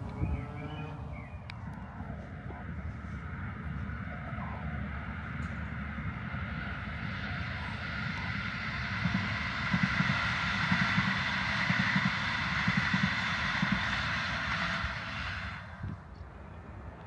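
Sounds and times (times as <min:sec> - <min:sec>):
train rumble and rail noise: 0:00.0 - 0:17.0.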